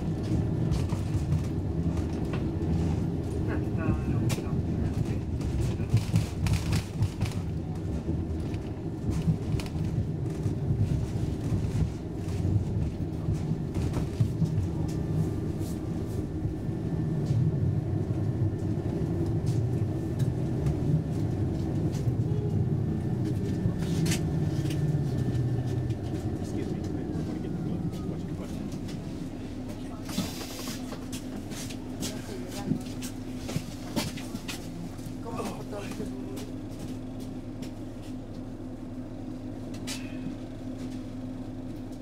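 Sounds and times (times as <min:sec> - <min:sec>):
electric train rumbling: 0:00.0 - 0:42.0.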